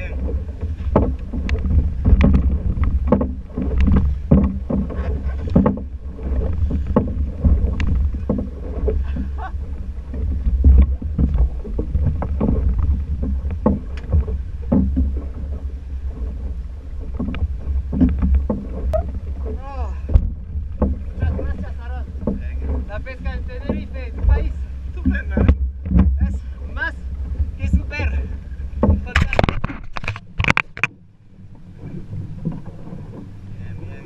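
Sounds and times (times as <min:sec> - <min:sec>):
low rumble: 0:00.0 - 0:34.0
water slapping against hull: 0:00.0 - 0:34.0.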